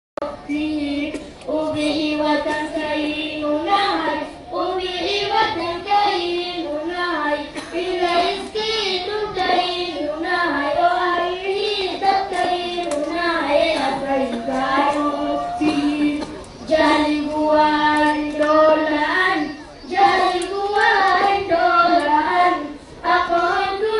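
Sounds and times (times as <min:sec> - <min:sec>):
young voices chanting: 0:00.2 - 0:23.9.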